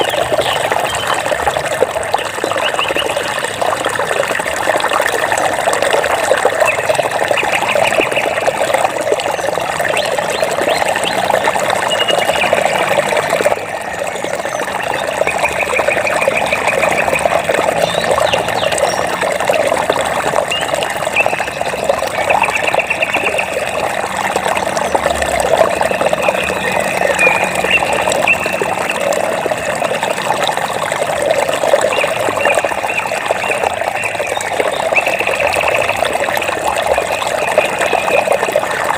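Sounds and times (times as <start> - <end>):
water flowing and trickling: 0.0 - 38.9.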